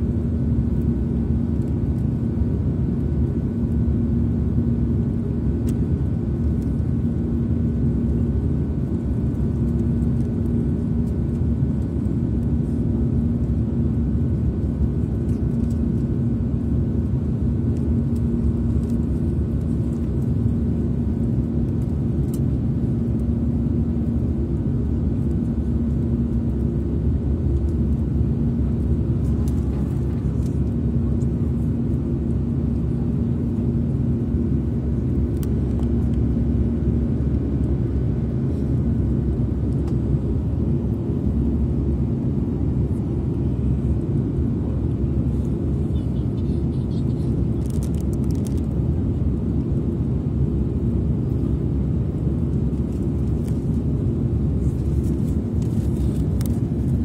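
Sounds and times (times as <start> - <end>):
even hum: 0.0 - 57.0
jet engine and airflow rumble: 0.0 - 57.0.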